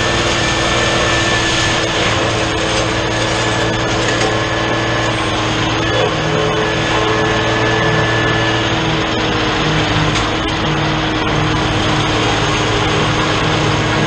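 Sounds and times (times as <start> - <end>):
diesel tractor running under load: 0.0 - 14.0
mower drums cutting hay: 0.0 - 14.0.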